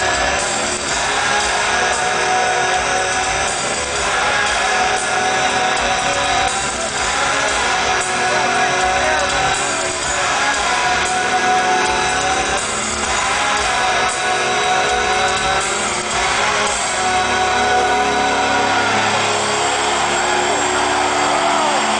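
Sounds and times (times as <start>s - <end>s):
electric guitar: 0.0s - 21.9s
live rock band playing: 0.0s - 21.9s
person singing: 0.0s - 21.9s.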